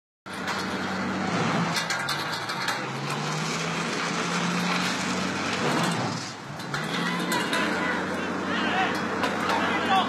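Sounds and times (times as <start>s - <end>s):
engine droning: 0.3s - 10.0s
metal barriers clanking: 0.3s - 10.0s.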